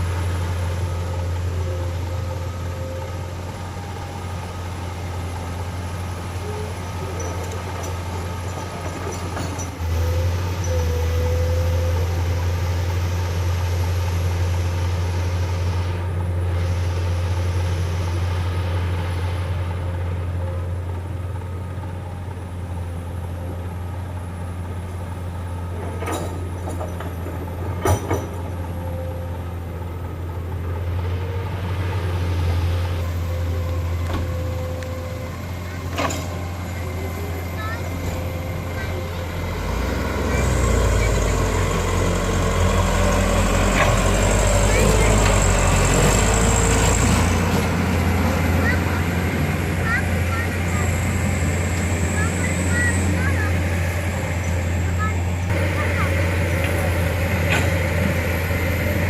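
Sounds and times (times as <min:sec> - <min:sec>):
diesel machinery engine hum: 0:00.0 - 0:59.0.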